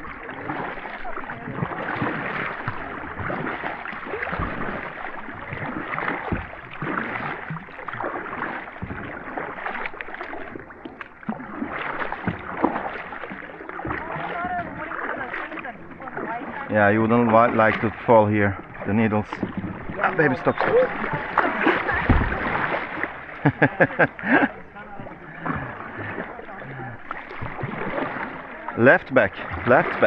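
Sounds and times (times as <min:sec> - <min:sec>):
paddles splashing in water: 0:00.0 - 0:30.0.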